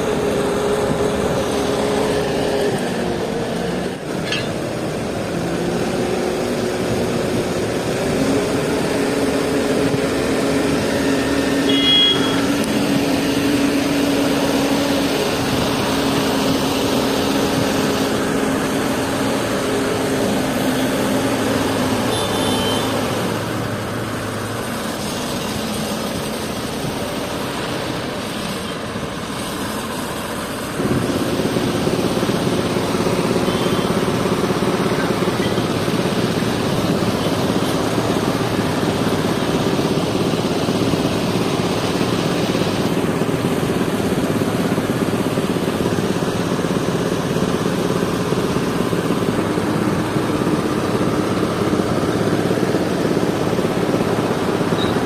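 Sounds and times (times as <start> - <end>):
diesel crane engine running: 0.0 - 55.0.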